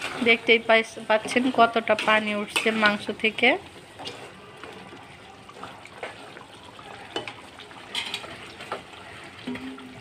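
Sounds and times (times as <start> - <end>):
metal spatula stirring: 0.0 - 4.9, 5.5 - 9.9
curry simmering: 0.0 - 10.0.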